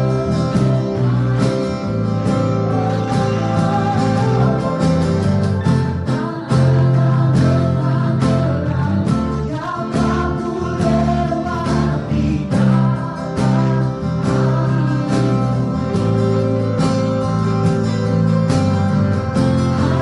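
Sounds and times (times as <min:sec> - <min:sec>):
person singing: 0:00.0 - 0:16.7, 0:19.4 - 0:20.0
band playing worship song: 0:00.0 - 0:20.0
strummed guitar: 0:00.0 - 0:20.0.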